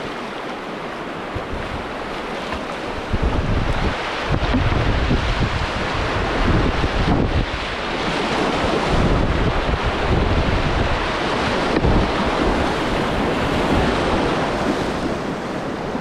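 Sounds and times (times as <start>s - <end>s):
whitewater rapids rushing: 0.0s - 16.0s
wind buffeting on microphone: 1.3s - 2.0s, 2.6s - 16.0s.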